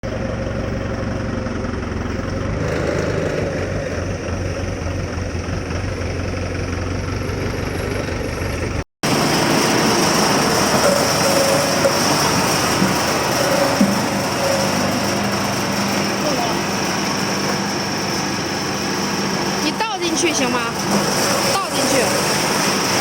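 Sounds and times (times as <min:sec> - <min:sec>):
grinding machine humming: 0:00.0 - 0:23.0.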